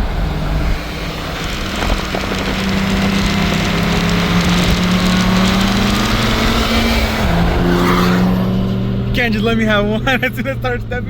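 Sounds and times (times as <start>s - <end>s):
car engine accelerating hard: 0.0s - 11.0s
road and wind noise: 0.0s - 11.0s.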